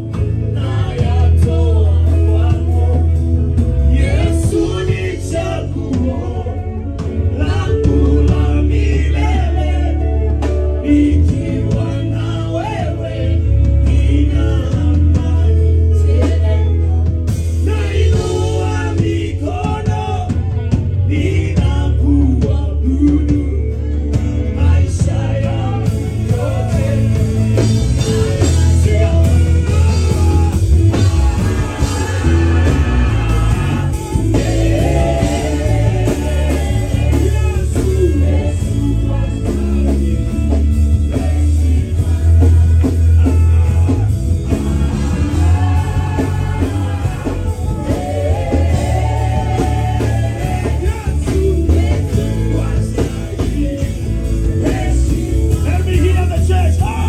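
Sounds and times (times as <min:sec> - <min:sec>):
drum kit: 0:00.0 - 0:57.0
keyboard: 0:00.0 - 0:57.0
vocalists singing: 0:00.0 - 0:57.0.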